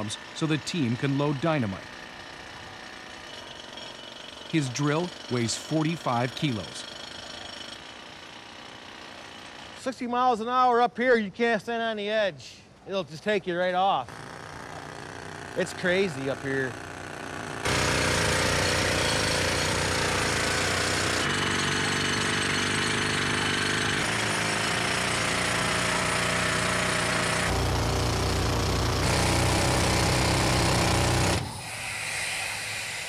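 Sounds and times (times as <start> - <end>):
pneumatic rock drill hammering: 0.0 - 9.8, 14.1 - 33.0.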